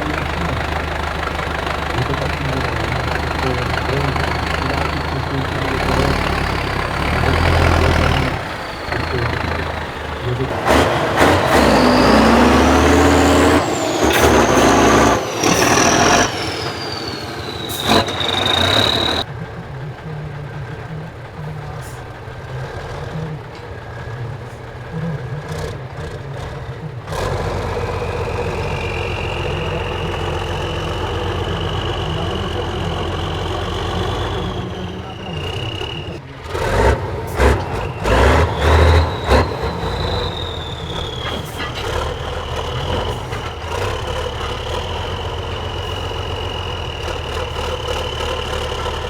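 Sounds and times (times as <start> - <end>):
diesel truck engines revving: 0.0 - 49.0
high engine whine: 0.0 - 49.0.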